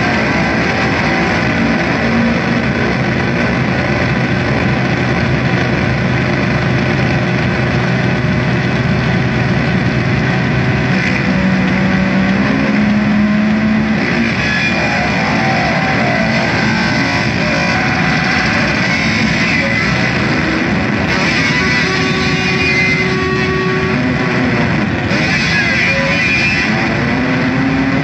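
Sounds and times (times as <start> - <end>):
distorted noise music: 0.0 - 28.0.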